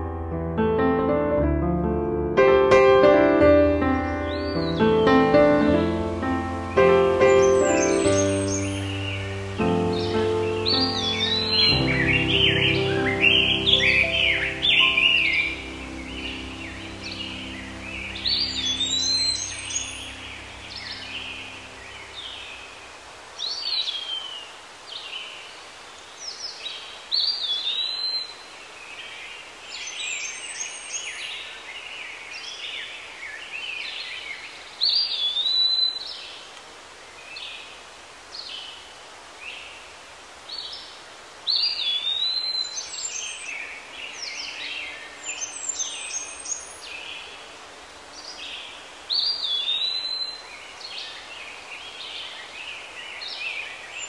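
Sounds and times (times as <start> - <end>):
steady background hiss: 0.0 - 54.0
birds singing: 2.8 - 38.9, 41.5 - 54.0.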